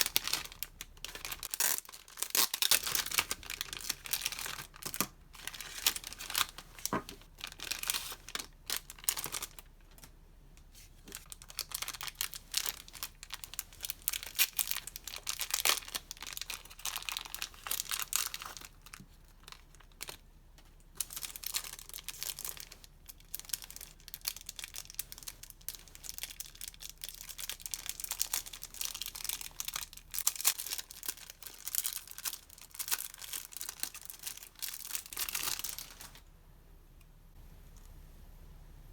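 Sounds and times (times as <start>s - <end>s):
packaging crinkling and rustling: 0.0s - 36.3s.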